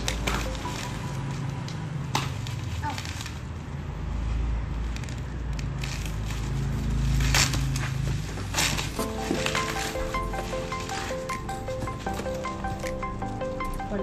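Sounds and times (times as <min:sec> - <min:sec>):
bubble wrap rustling and crinkling: 0:00.0 - 0:14.0.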